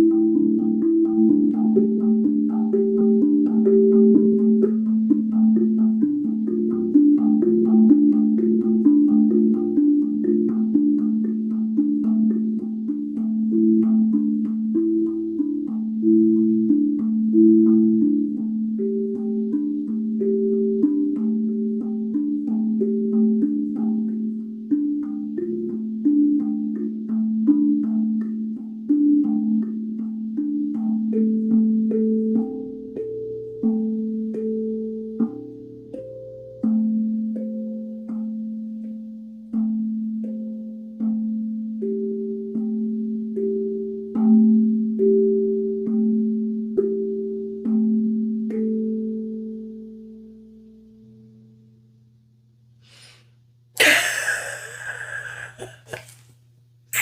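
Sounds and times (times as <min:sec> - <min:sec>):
steel tongue drum melody: 0:00.0 - 0:51.7, 0:53.8 - 0:56.0.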